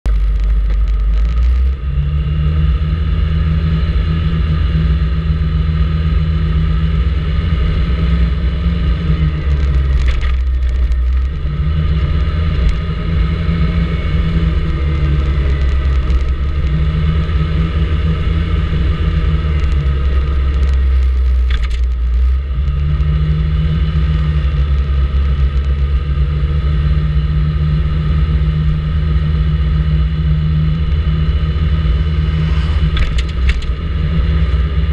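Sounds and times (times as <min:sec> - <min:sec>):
scooter engine droning: 0:00.7 - 0:34.9.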